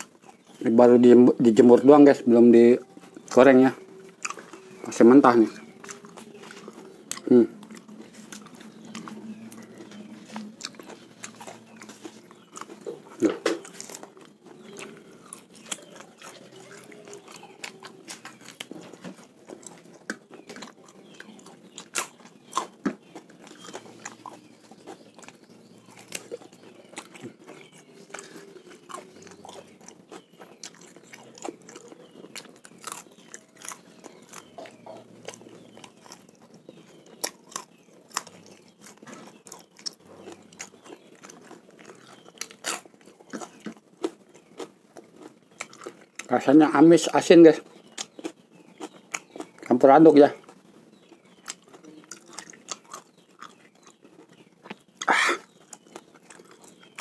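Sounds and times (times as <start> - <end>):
person chewing dried fish: 0.0 - 57.0.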